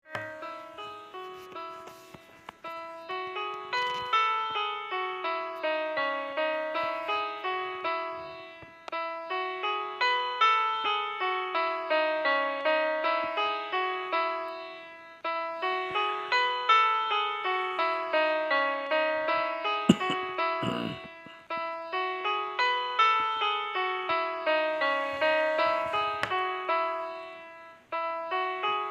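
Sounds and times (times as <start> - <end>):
light piano-like keyboard melody: 0.0 - 28.9.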